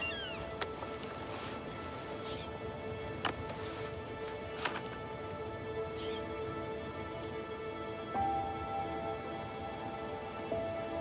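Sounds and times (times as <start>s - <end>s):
background music of held notes: 0.0s - 11.0s.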